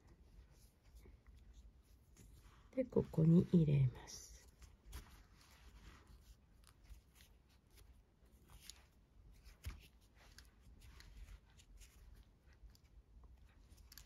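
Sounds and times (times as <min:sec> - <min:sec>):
cord rustling and scraping: 0:00.0 - 0:14.0.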